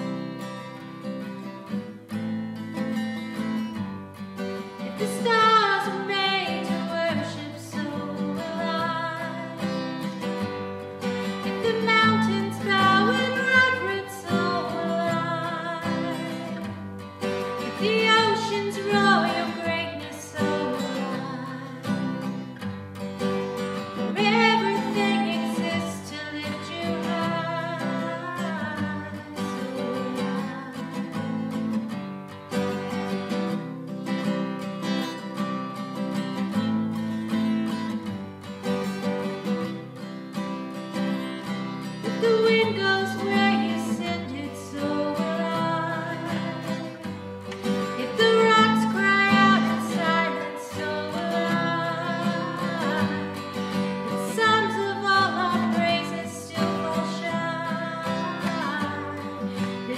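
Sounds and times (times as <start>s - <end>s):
strummed acoustic guitar: 0.0s - 59.9s.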